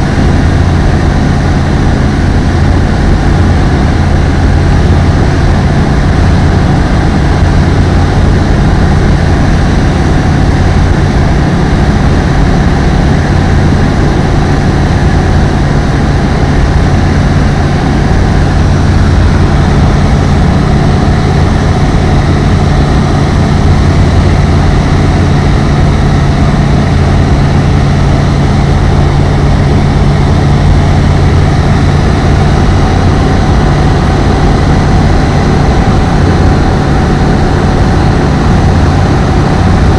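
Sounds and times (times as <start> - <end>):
ultralight aeroplane engine drone: 0.0 - 39.9.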